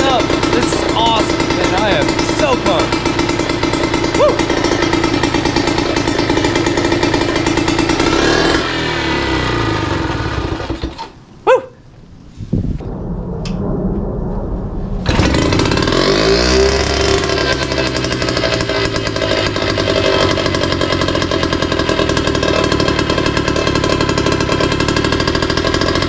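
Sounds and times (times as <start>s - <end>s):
outboard motor running: 0.0s - 11.6s, 15.1s - 26.0s.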